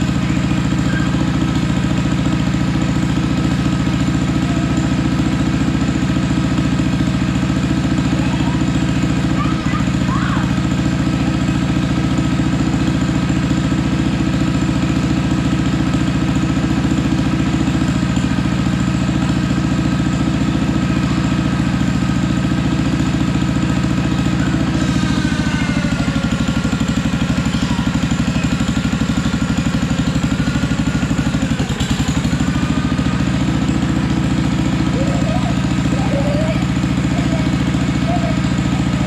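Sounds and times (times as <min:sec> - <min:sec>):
single-cylinder engine idling: 0:00.0 - 0:39.0.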